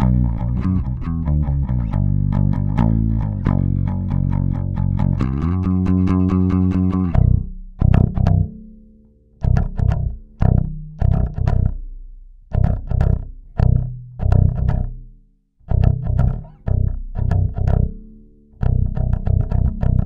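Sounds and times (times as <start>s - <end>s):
electric bass plucked: 0.0s - 20.0s.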